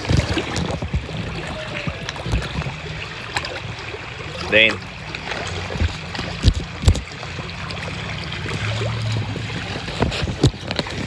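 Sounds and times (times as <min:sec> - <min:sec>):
wind on microphone: 0:00.0 - 0:04.0, 0:05.6 - 0:11.0
water around canoe: 0:00.0 - 0:11.0.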